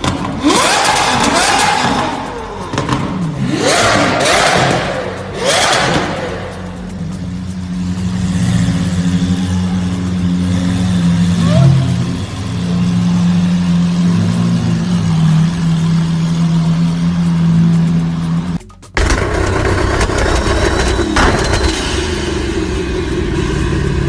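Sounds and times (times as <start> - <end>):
car engine with loud exhaust: 0.0 - 24.0.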